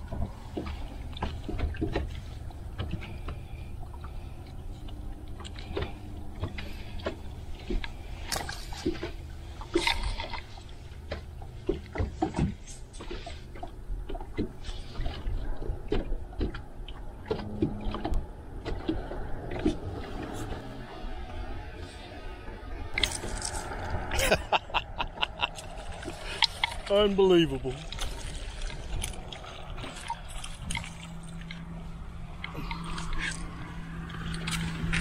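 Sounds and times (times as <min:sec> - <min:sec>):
water lapping against boat hull: 0:00.0 - 0:35.0.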